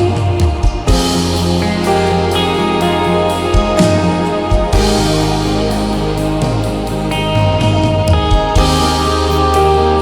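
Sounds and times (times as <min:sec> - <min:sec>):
worship band playing: 0:00.0 - 0:10.0.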